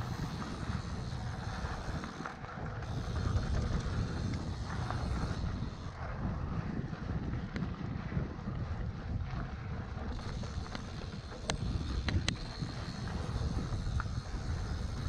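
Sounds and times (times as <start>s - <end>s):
bike clicks and rattles: 0.0s - 15.0s
bike tyre noise: 0.0s - 15.0s
wind buffeting microphone: 0.0s - 15.0s.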